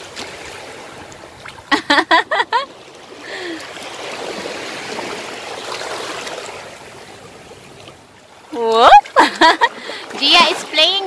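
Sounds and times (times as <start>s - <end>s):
surf washing over sand: 0.0s - 11.0s.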